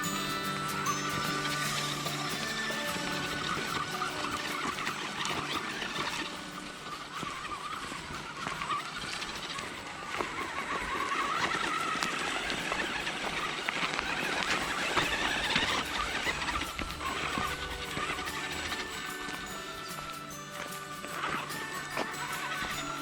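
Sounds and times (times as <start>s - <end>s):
scattered clicks: 0.0s - 23.0s
small electric motor whining: 0.0s - 23.0s.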